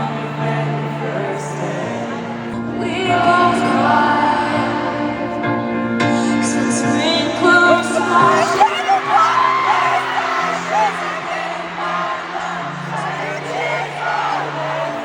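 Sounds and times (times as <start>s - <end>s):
live concert music with singer: 0.0s - 15.0s.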